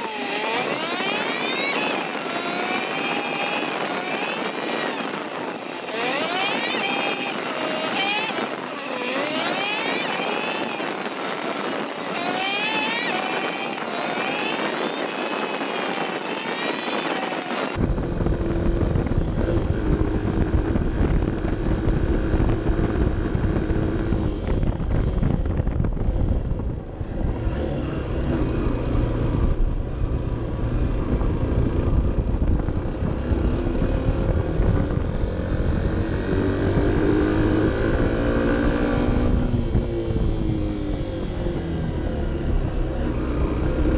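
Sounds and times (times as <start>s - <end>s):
road noise: 0.0s - 43.9s
wind noise: 0.0s - 43.9s.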